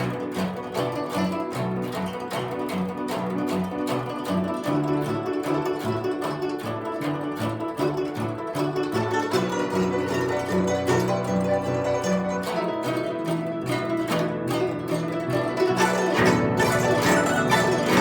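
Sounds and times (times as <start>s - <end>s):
plucked zither playing: 0.0s - 18.0s.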